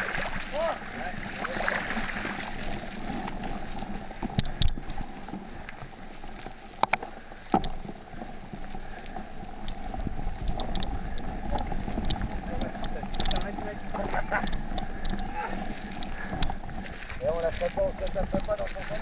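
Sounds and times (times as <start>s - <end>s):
bike rattling over bumps: 0.0s - 19.0s
bike tyres rolling on dirt: 0.0s - 19.0s.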